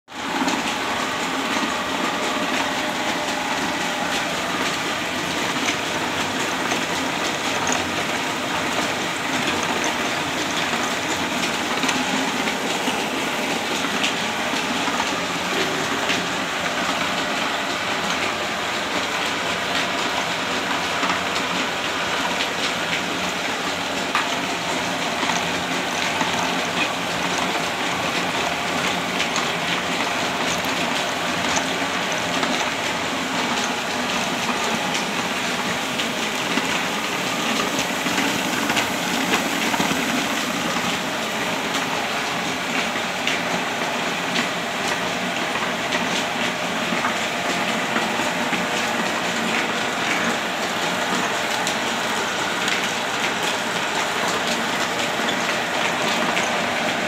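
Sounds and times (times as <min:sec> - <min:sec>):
oil mill mechanical clatter: 0:00.1 - 0:57.0.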